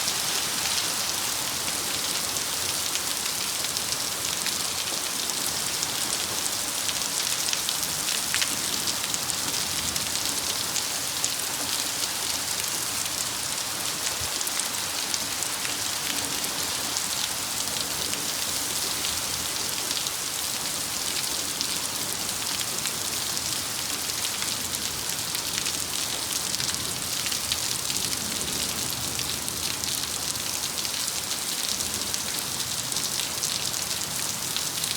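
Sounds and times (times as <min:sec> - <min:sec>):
heavy rain downpour: 0:00.0 - 0:34.9.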